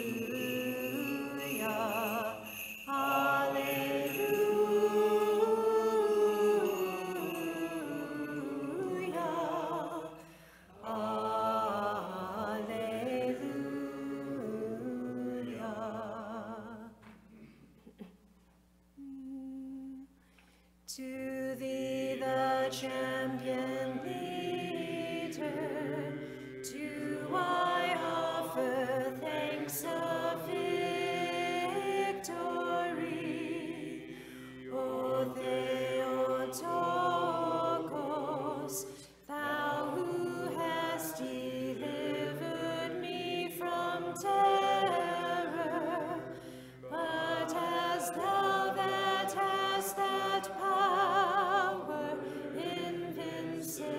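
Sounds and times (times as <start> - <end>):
voices singing a chant: 0.0 - 17.0, 20.9 - 53.9.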